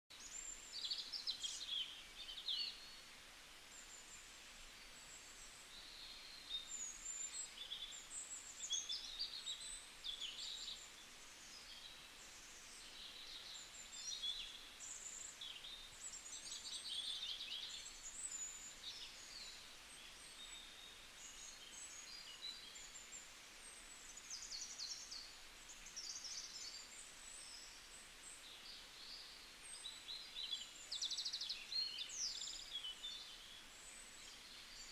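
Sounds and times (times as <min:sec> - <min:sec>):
faint steady hiss: 0:00.1 - 0:34.9
small birds chirping: 0:00.1 - 0:34.9.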